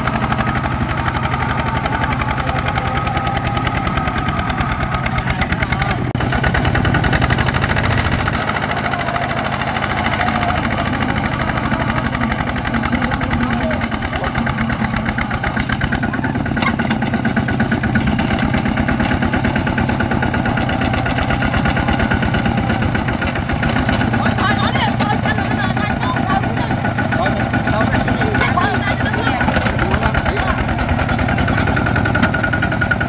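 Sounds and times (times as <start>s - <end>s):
diesel tiller engine running: 0.0s - 33.0s.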